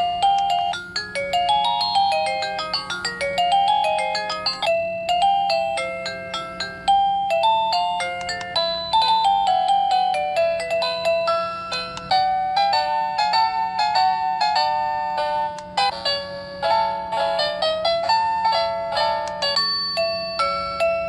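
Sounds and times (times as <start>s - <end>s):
electronic doorbell chime melody: 0.0s - 21.0s.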